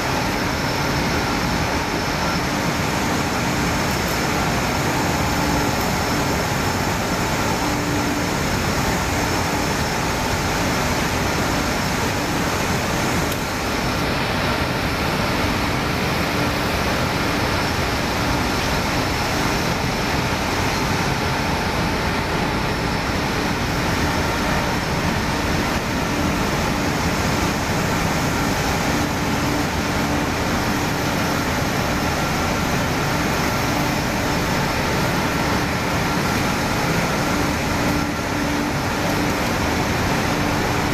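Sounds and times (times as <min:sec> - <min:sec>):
recycling machine running: 0:00.0 - 0:40.9.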